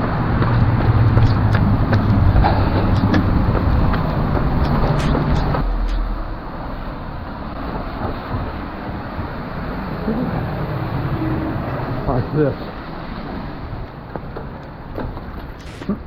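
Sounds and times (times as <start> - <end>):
tyres on wet road: 0.0 - 16.0
vehicle engine hum: 0.0 - 16.0.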